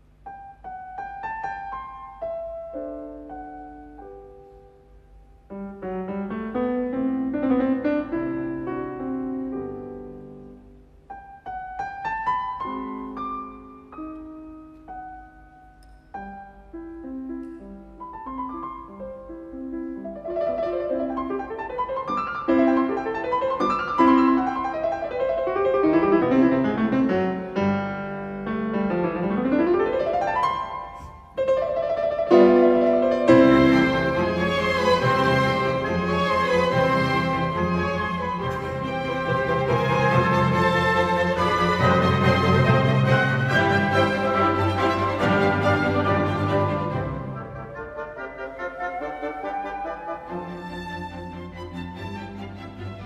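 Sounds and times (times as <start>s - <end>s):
gentle piano music: 0.0s - 53.0s.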